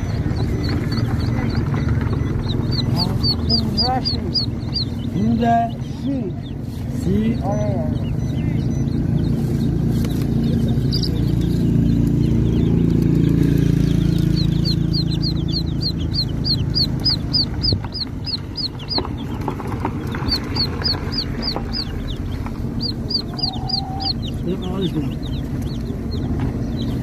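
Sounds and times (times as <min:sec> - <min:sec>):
chicks peeping: 0:00.0 - 0:27.0
low steady rumble: 0:00.0 - 0:27.0.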